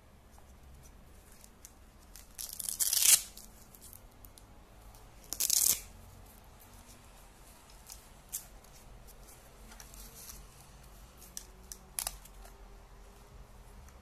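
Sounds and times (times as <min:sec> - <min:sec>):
strap webbing rustling and clicking: 0:00.4 - 0:12.6.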